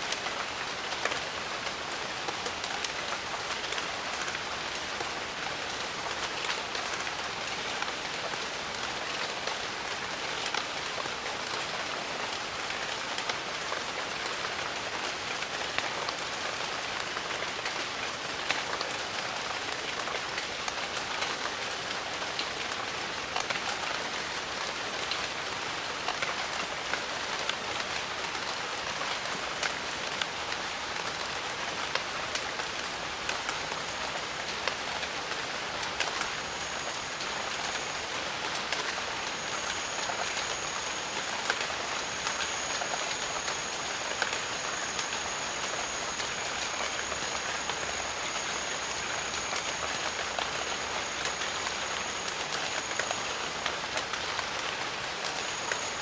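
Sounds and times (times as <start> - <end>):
rain falling: 0.0 - 56.0
raindrops pattering on leaves: 0.0 - 56.0.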